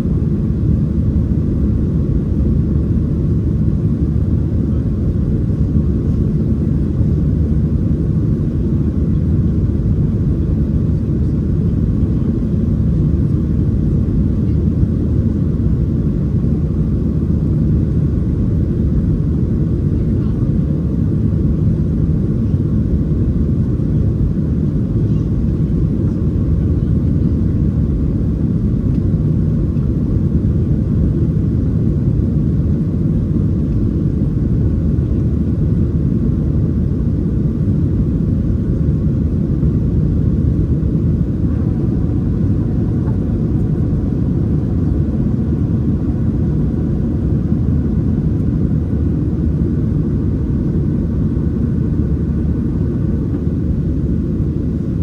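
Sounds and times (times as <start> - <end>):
faint steady hum: 0.0 - 55.0
jet engine rumble: 0.0 - 55.0.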